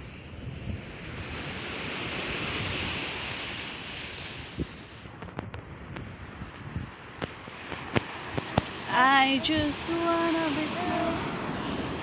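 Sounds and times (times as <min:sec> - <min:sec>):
sea wave washing up beach: 0:00.0 - 0:05.2, 0:07.0 - 0:12.0.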